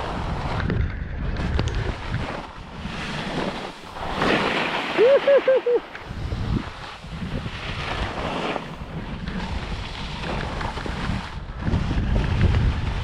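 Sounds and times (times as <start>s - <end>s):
skis scraping on hard snow: 0.0s - 13.0s
wind rushing over microphone: 0.0s - 13.0s.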